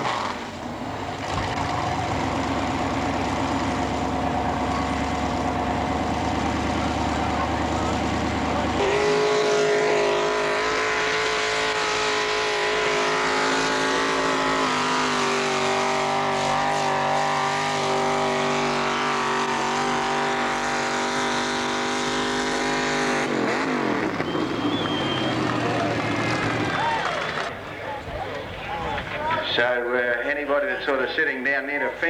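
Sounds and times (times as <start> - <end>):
engine running at high revs: 0.0 - 27.6.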